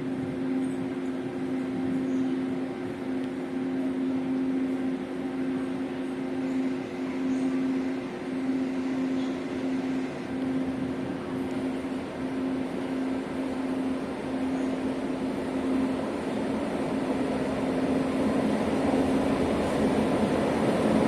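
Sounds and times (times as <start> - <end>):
locomotive diesel engine hum: 0.0 - 21.0
noisy rumble: 0.0 - 21.0.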